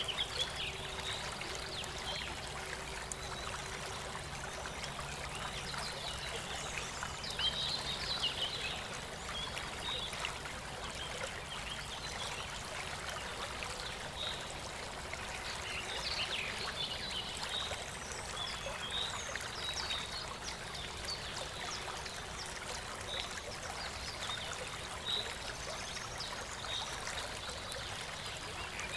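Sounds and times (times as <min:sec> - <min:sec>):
running water: 0:00.0 - 0:28.9.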